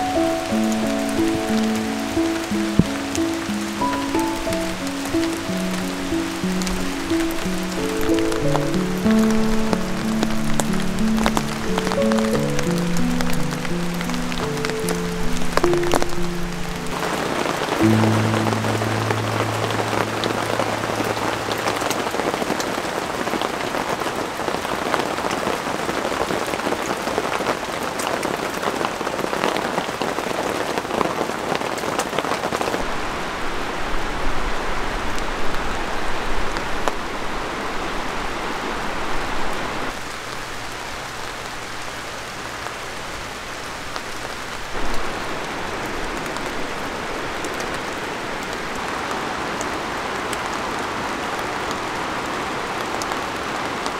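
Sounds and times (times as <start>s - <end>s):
light rain falling: 0.0s - 53.9s.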